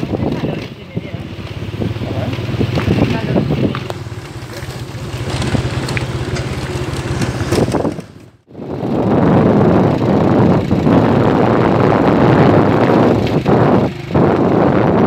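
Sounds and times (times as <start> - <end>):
road noise: 0.0 - 15.0
vehicle engine running: 0.0 - 15.0
wind buffeting microphone: 0.0 - 15.0.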